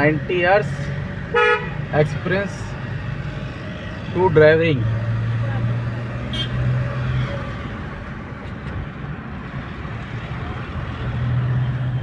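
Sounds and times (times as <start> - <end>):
road noise inside car cabin: 0.0 - 12.0.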